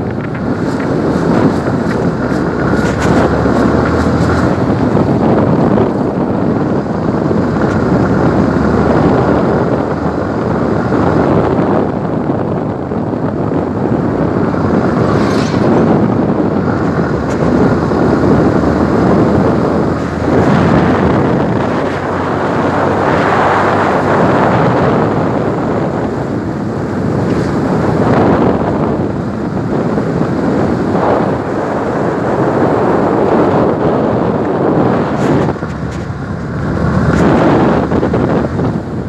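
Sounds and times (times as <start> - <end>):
motorbike running: 0.0 - 39.0
road noise: 0.0 - 39.0
wind rushing over microphone: 0.0 - 39.0.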